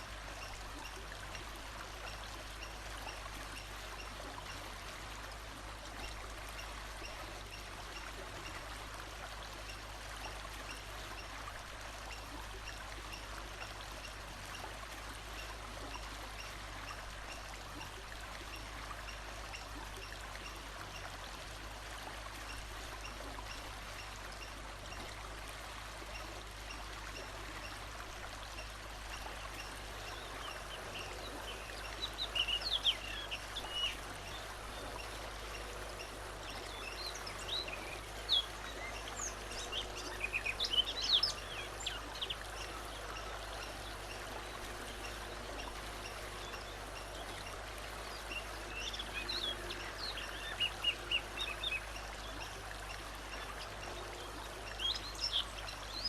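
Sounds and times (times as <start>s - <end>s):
water running in stream: 0.0s - 56.0s.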